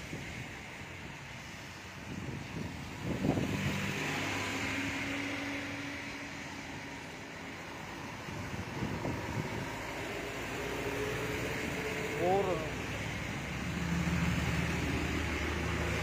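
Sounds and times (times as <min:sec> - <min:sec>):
floodwater rushing: 0:00.0 - 0:16.0
wind: 0:00.0 - 0:16.0.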